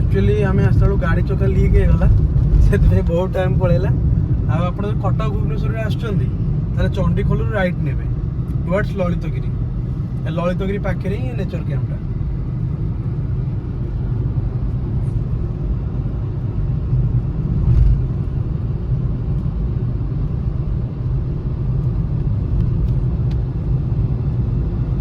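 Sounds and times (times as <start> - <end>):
vehicle driving on road: 0.0 - 25.0.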